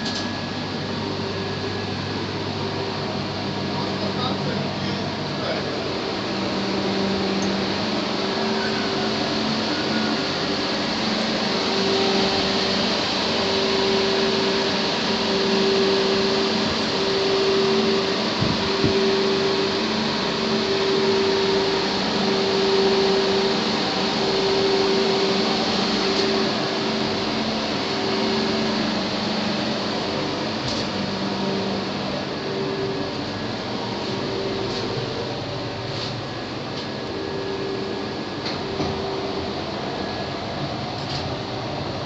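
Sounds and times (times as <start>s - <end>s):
workshop machinery whirring: 0.0s - 42.0s.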